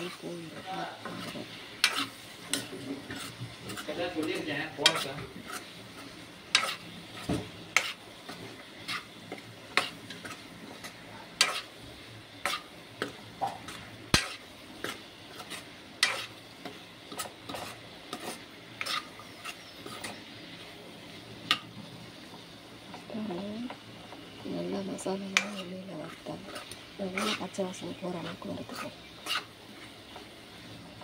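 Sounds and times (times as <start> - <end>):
metal spoon scraping a pan: 0.0 - 11.8, 12.4 - 20.8, 24.3 - 30.7
oil sizzling: 0.0 - 31.0.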